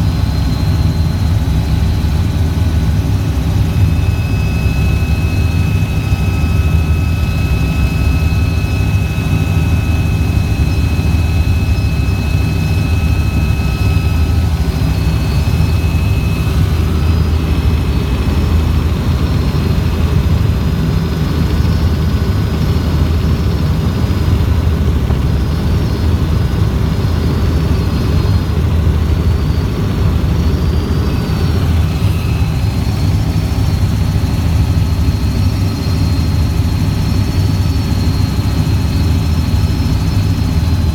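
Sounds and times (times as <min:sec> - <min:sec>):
helicopter rotor and engine drone: 0:00.0 - 0:40.9
thin high whine: 0:00.0 - 0:40.9.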